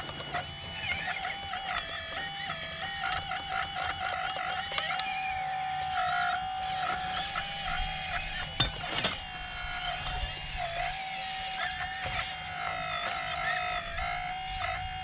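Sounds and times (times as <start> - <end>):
hydraulic pump motor whining: 0.0 - 15.0.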